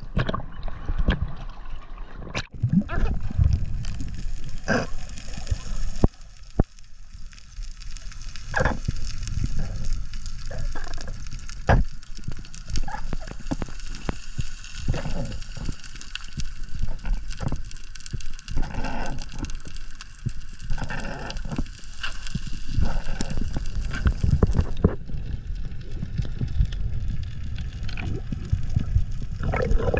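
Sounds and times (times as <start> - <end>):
low rumble of moving water: 0.0 - 29.9
underwater crackling and clicks: 0.0 - 29.9.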